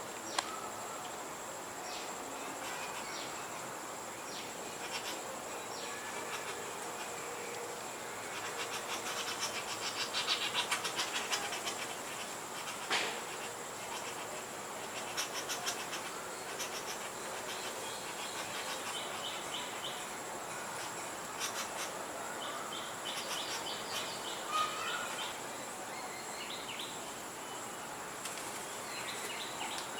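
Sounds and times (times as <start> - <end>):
insect drone: 0.0 - 29.9.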